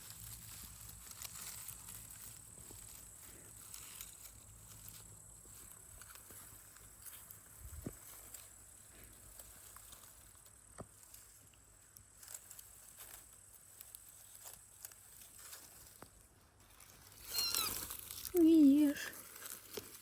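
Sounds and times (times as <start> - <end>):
faint rustling: 0.0 - 20.0.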